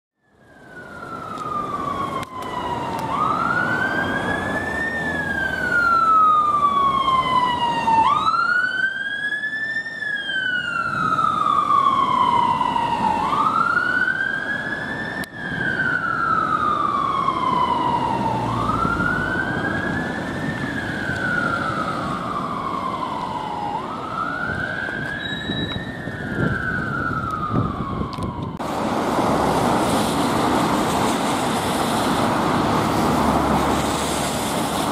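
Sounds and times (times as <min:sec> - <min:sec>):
ambulance siren wailing: 0:00.2 - 0:34.9
road traffic noise: 0:00.2 - 0:34.9.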